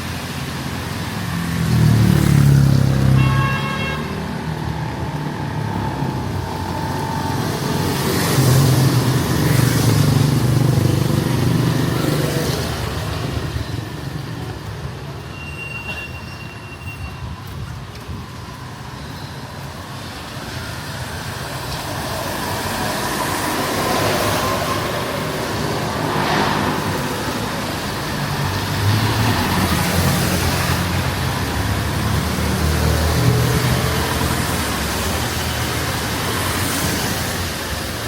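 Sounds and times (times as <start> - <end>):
road noise hiss: 0.0 - 38.0.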